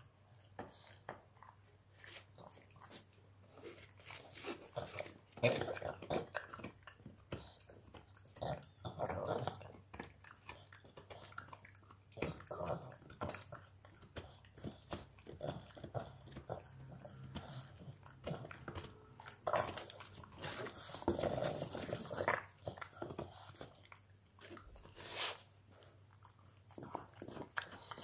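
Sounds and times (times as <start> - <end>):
dog gnawing chew stick: 0.3 - 28.0.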